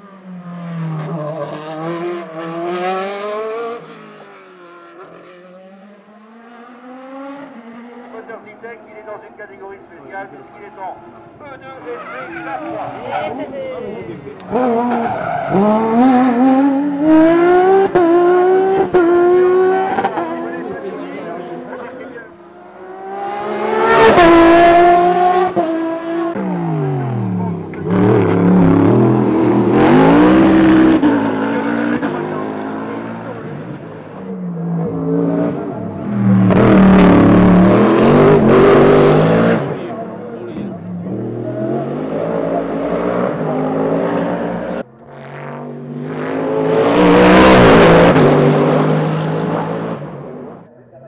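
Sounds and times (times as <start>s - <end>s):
racing car engines at full throttle: 0.0s - 51.0s.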